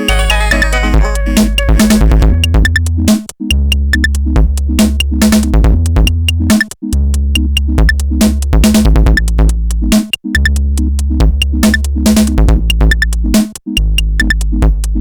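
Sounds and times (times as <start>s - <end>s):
electronic beat music: 0.0s - 15.0s.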